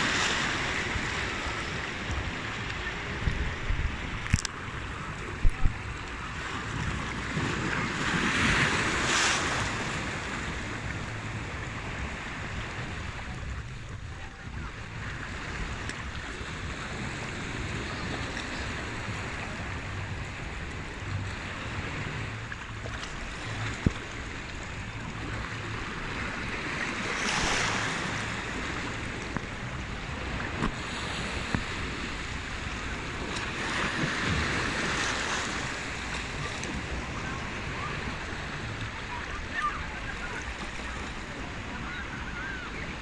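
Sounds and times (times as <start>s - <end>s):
sea waves washing over rocks: 0.0s - 43.0s
wind rumble on microphone: 0.0s - 43.0s.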